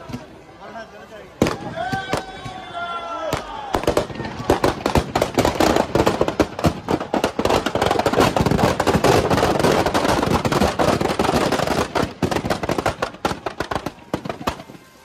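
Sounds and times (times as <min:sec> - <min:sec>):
firecrackers crackling and banging: 0:00.0 - 0:15.0.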